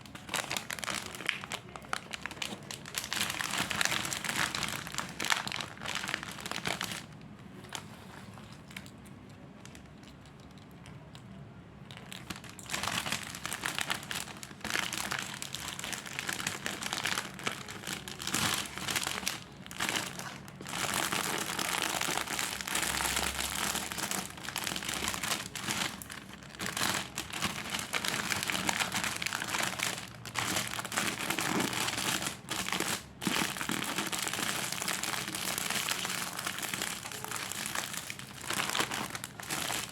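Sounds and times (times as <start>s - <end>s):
plastic packets crinkling: 0.0s - 11.2s, 11.9s - 39.9s.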